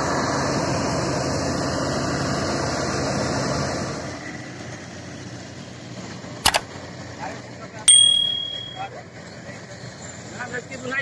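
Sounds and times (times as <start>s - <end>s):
combine harvester running: 0.0s - 10.6s.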